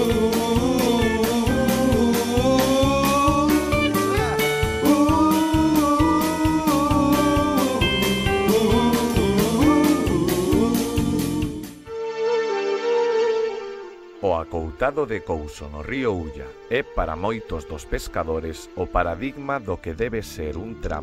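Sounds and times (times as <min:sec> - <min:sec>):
background music with steady beat: 0:00.0 - 0:12.1, 0:13.6 - 0:21.0.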